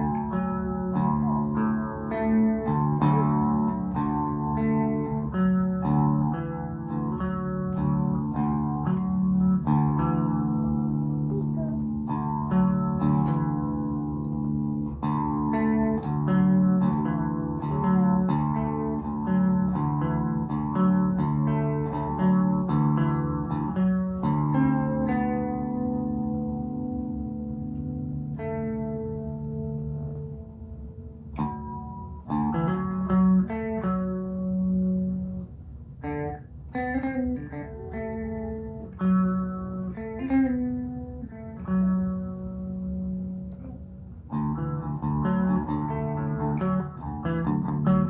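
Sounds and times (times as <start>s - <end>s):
electric guitar jamming: 0.0s - 48.0s.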